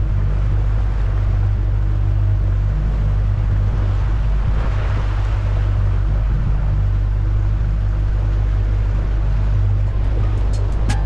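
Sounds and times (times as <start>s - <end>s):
boat wake washing: 0.0s - 11.0s
outboard motor humming: 0.0s - 11.0s.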